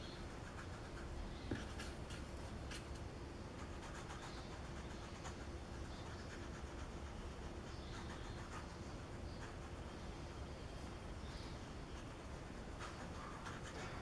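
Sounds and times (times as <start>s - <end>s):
paintbrush scratching on paper: 0.3s - 2.9s, 3.6s - 10.4s, 11.9s - 14.0s.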